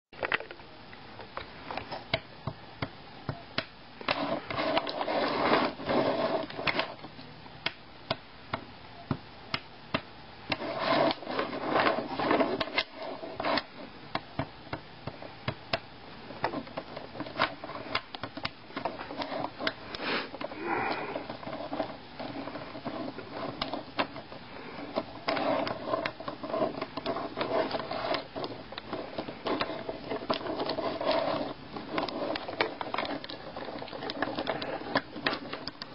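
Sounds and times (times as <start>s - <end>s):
wooden cubes clicking and knocking: 1.2s - 35.9s.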